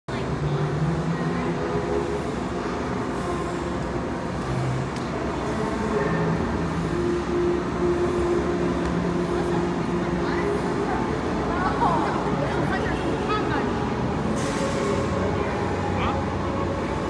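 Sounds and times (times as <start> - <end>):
train platform rumbling: 0.1 - 17.0.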